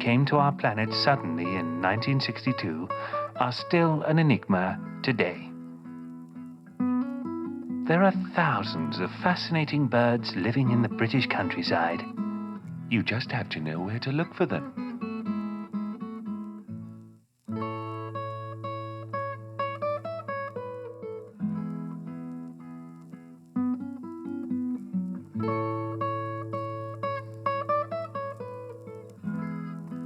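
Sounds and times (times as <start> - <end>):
guitar music: 0.0 - 30.0.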